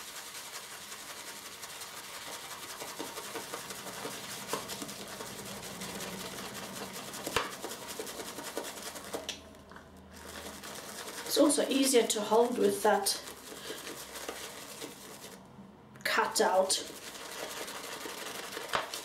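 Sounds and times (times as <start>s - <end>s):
shaving brush rubbing soap: 0.0s - 15.5s, 16.2s - 19.0s.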